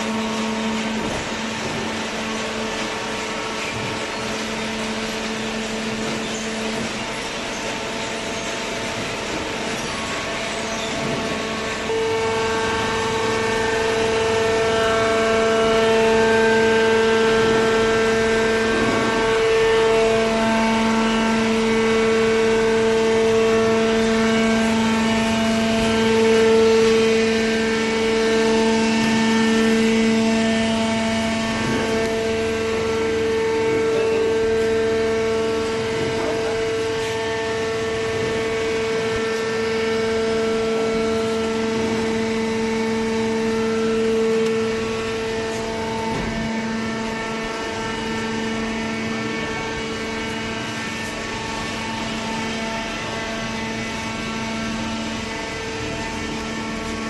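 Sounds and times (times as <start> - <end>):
hydraulic power unit whine: 0.0 - 57.0.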